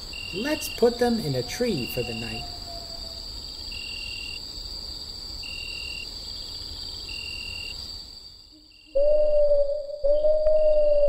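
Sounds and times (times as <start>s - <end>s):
cricket chirps: 0.0s - 11.0s
crickets trilling: 0.0s - 11.0s.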